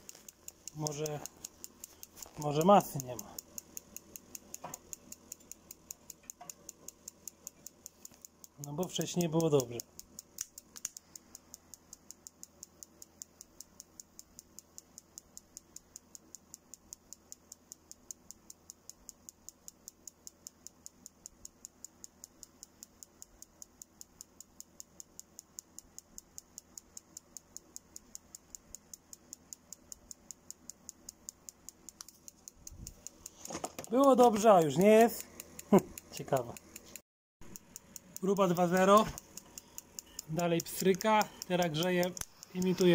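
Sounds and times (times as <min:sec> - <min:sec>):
heater spark igniter clicking: 0:00.0 - 0:42.9.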